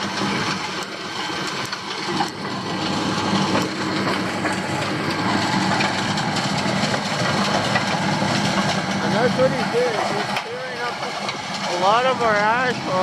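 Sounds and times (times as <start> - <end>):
engine drone: 0.0 - 13.0
milling machine grinding asphalt: 0.0 - 13.0.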